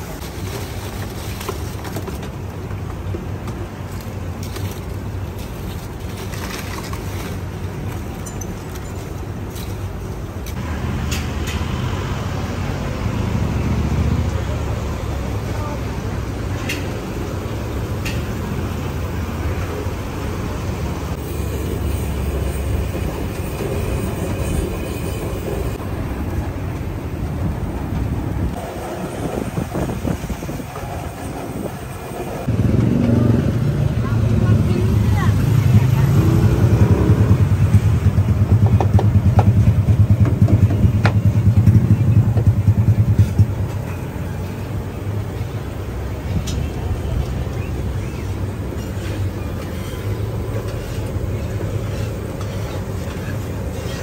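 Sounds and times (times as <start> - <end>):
street traffic rumble: 0.0 - 54.0.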